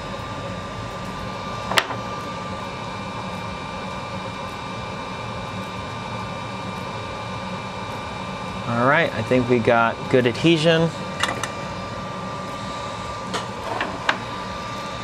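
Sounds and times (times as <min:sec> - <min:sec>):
fan humming: 0:00.0 - 0:15.0
high steady whine: 0:00.0 - 0:15.0.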